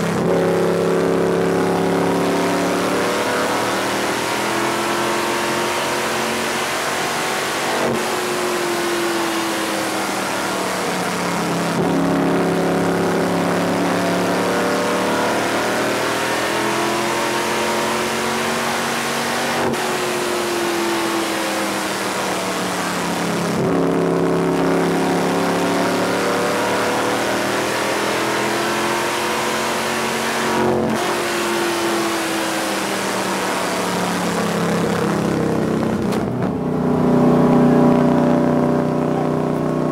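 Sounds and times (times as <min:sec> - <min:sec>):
race car engine at speed: 0:00.0 - 0:39.9.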